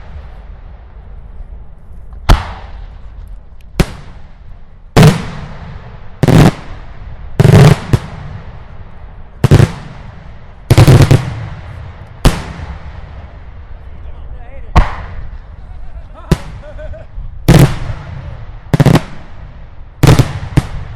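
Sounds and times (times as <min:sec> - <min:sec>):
fireworks exploding with loud bangs: 0:02.2 - 0:13.8, 0:14.6 - 0:20.9.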